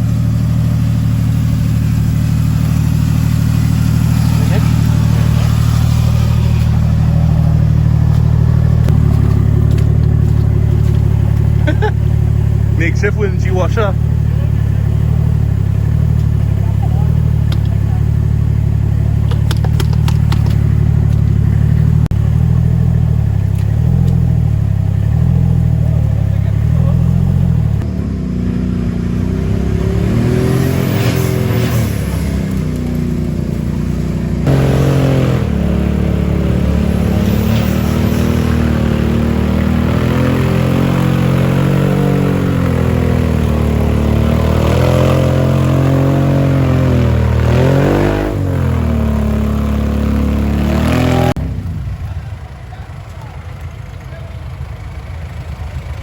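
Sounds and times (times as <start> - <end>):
off-road engine revving: 0.0 - 53.3.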